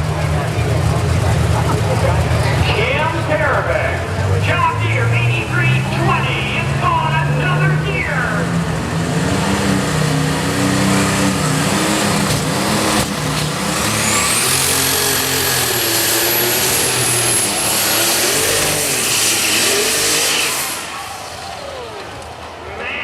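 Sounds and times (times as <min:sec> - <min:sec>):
tractor engine running hard: 0:00.0 - 0:23.0.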